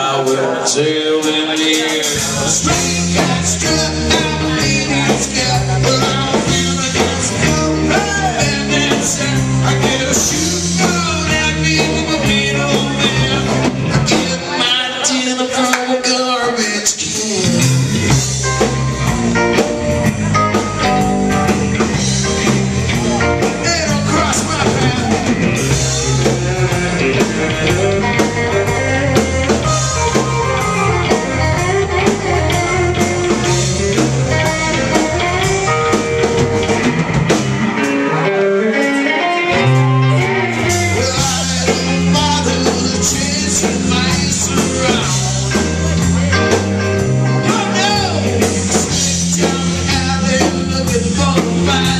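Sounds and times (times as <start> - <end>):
drum kit: 0.0 - 15.8, 16.8 - 51.9
distorted electric guitars: 0.0 - 16.0, 16.9 - 51.9
man singing: 0.0 - 18.8, 20.5 - 36.4, 37.7 - 51.9.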